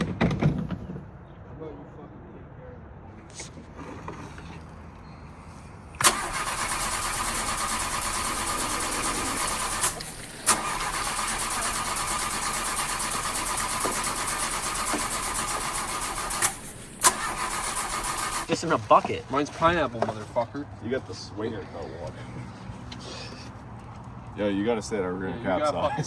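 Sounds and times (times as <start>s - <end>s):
engine running: 3.2s - 24.4s.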